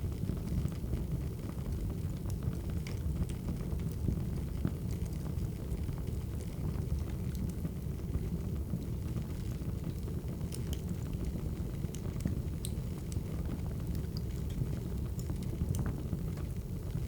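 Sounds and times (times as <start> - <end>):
wood fire crackling: 2.2 - 17.0.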